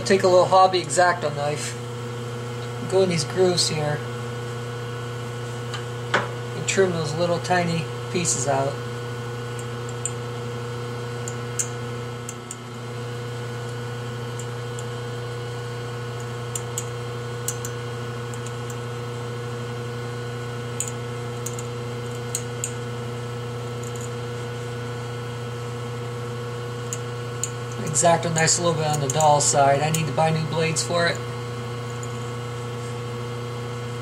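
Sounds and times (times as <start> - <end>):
low machine hum: 0.0 - 34.0.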